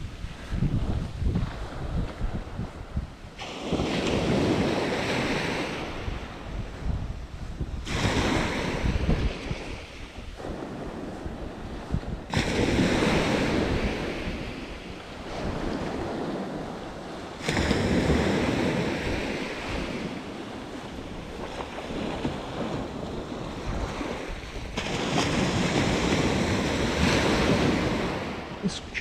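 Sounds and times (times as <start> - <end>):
small waves breaking on beach: 0.0 - 29.0
wind buffeting microphone: 0.0 - 29.0.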